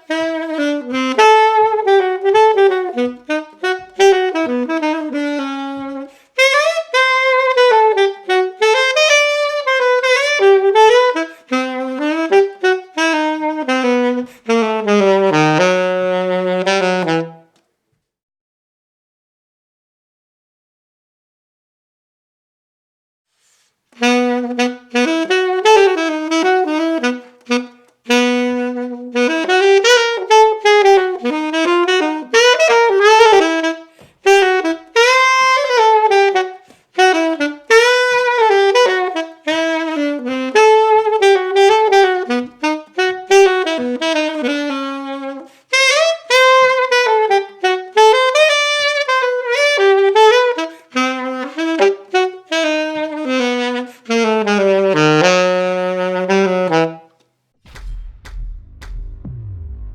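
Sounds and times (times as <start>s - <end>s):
jazz saxophone solo: 0.0s - 17.6s, 23.9s - 58.0s.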